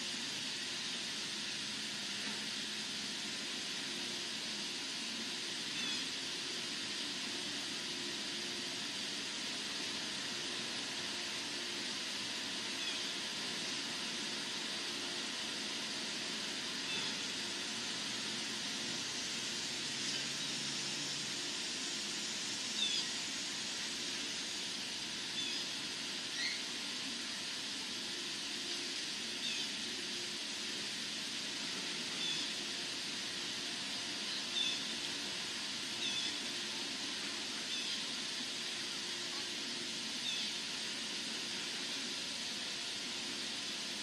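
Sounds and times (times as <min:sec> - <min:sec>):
steady outdoor hiss: 0:00.0 - 0:44.0.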